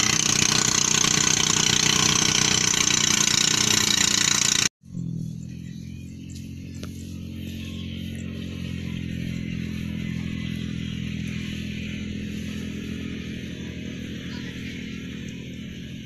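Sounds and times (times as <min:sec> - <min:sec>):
thresher engine drone: 0:00.0 - 0:16.0.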